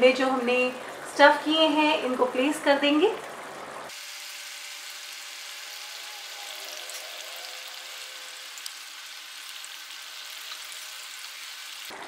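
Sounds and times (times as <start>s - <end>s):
oil and water sizzling: 0.2s - 12.0s.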